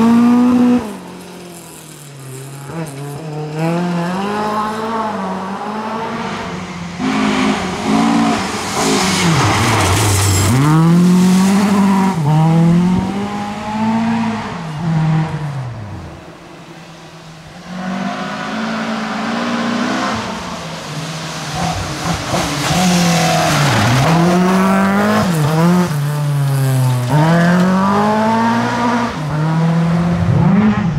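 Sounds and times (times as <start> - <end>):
rally car engine revving: 0.0 - 16.4, 17.4 - 30.9.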